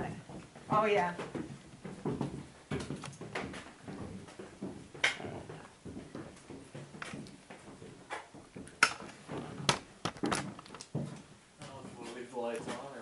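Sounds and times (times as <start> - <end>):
clicks and thuds: 0.0 - 11.8
footsteps: 0.0 - 13.0.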